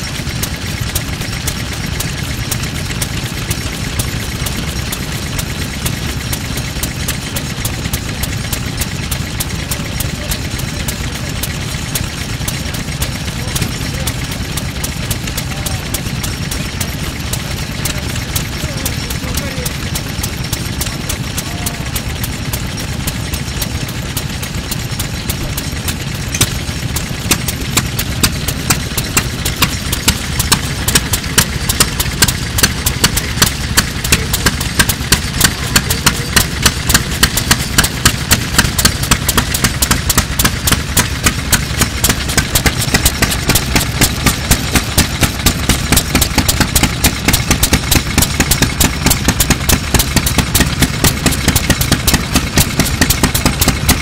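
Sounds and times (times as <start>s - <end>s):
single-cylinder engine exhaust beats: 0.0s - 54.0s
valve gear clatter: 0.0s - 54.0s.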